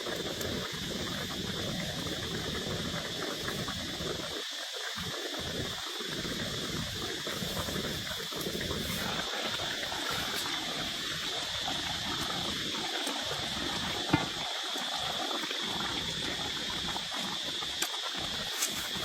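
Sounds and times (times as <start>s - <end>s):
high drone of insects: 0.0s - 19.0s.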